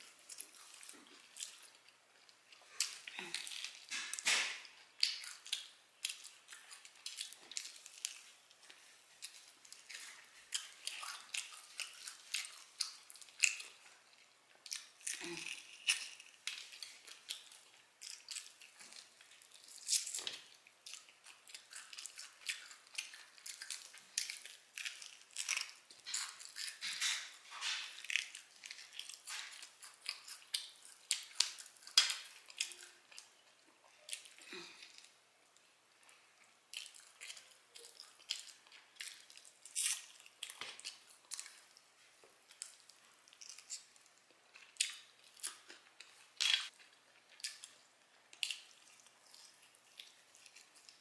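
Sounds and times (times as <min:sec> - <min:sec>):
wet chewing and crunching: 0:00.0 - 0:51.0.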